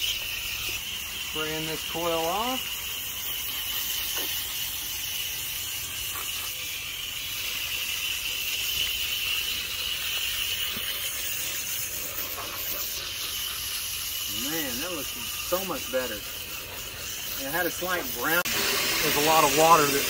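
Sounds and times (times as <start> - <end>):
hose water jet hissing: 0.0 - 20.0.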